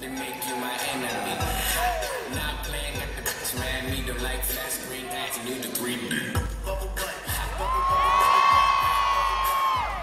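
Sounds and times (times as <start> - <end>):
bass-heavy dance music: 0.0 - 10.0.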